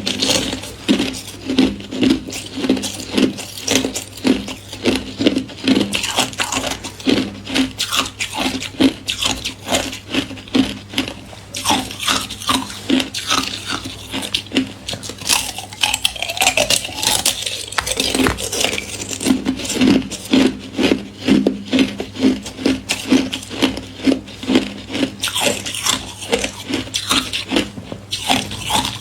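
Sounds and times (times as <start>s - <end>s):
ice being chewed: 0.0s - 29.0s.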